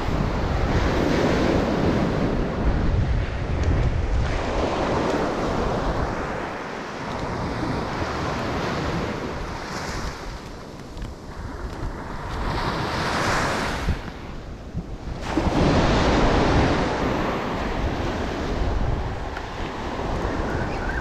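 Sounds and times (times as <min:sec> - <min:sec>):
waves washing on sandy beach: 0:00.0 - 0:21.0
wind buffeting microphone: 0:00.0 - 0:21.0.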